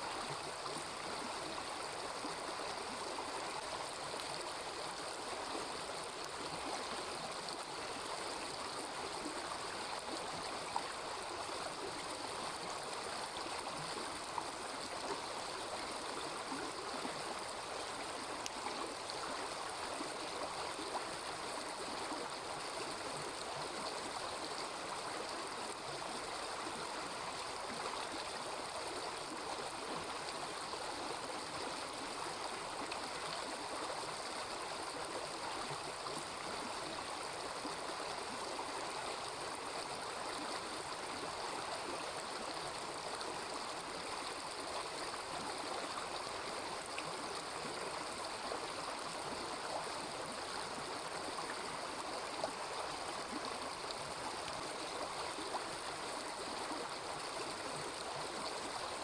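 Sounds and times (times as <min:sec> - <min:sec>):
small river babbling: 0:00.0 - 0:59.0.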